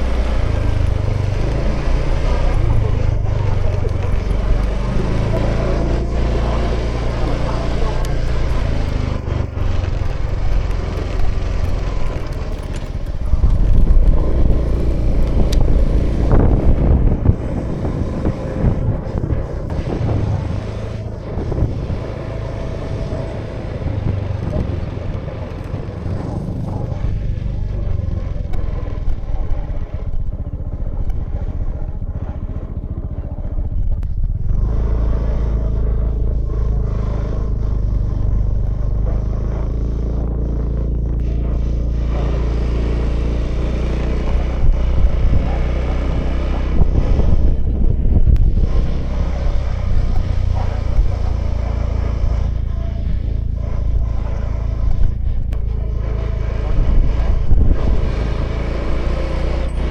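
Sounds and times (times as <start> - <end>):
scooter engine running: 0.0 - 59.9
wind and road noise: 0.0 - 59.9.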